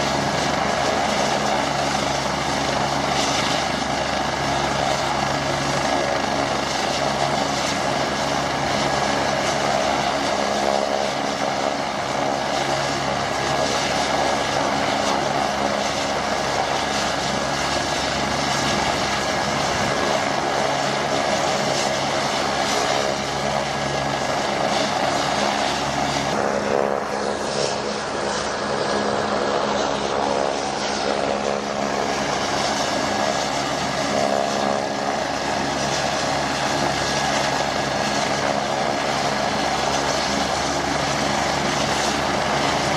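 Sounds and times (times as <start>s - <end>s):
helicopter rotor noise: 0.0s - 42.9s
helicopter turbine whine: 0.0s - 42.9s.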